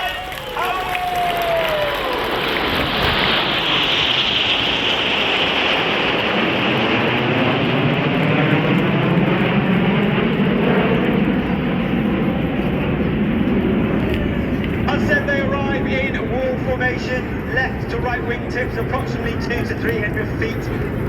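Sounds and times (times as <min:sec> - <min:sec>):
deep jet rumble: 0:00.0 - 0:21.0
high jet whine: 0:00.0 - 0:21.0
jet engines roaring: 0:00.0 - 0:21.0.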